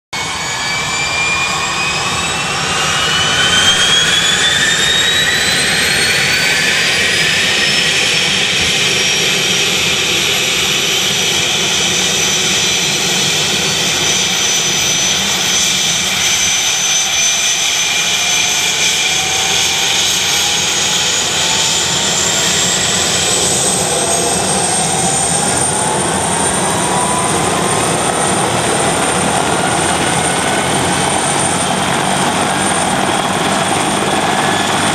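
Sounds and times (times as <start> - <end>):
helicopter rotor rush: 0.1 - 34.9
helicopter turbine engines whine: 0.2 - 34.9.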